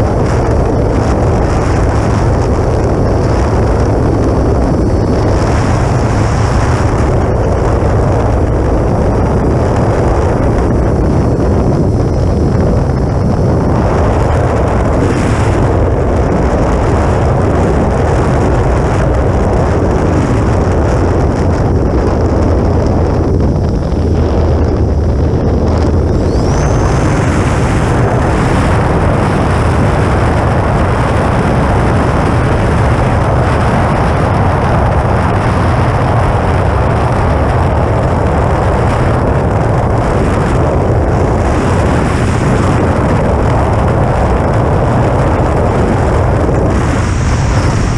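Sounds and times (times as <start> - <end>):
high whine of electric motor: 0.0 - 47.9
wind buffeting a camera: 0.0 - 47.9.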